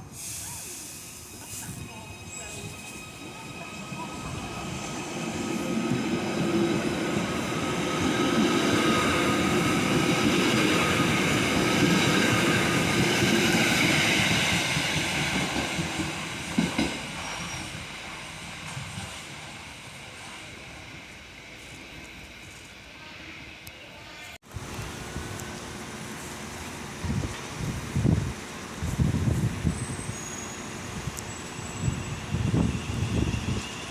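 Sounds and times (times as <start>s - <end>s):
train rumbling past: 0.0s - 33.9s.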